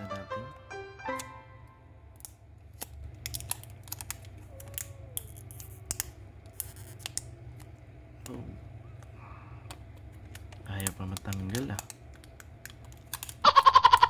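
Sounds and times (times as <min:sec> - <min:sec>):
steady low hum: 0:00.0 - 0:14.0
plastic film crackling: 0:02.0 - 0:14.0.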